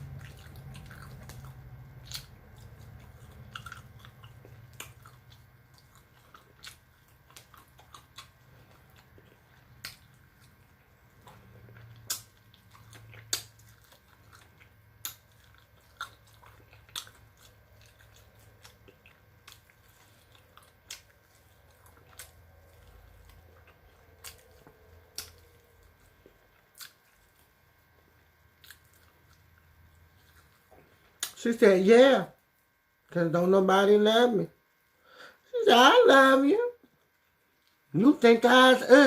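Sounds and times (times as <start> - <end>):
soft chewing: 0.0 - 31.4, 36.8 - 38.0.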